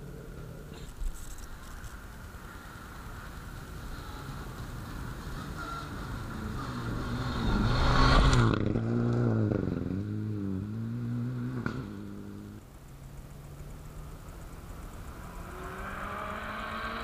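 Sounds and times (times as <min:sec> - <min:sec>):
rally car engine passing: 0:02.4 - 0:12.7, 0:13.4 - 0:17.0.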